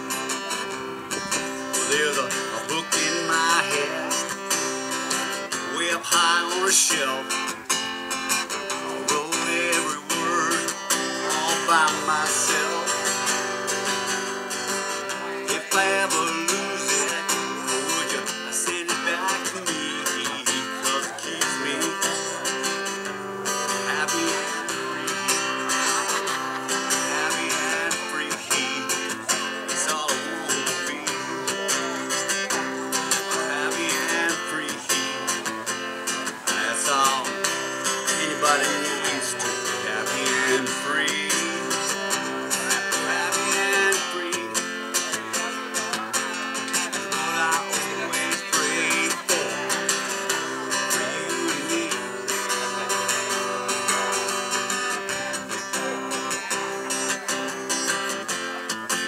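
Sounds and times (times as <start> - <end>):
acoustic guitar strumming: 0.0 - 59.0
man singing: 0.0 - 59.0.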